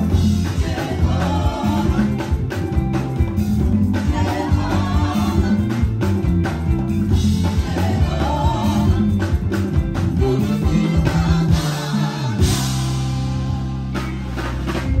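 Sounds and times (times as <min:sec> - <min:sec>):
congas and drums: 0:00.0 - 0:15.0
electric bass lines: 0:00.0 - 0:15.0
live band playing: 0:00.0 - 0:15.0.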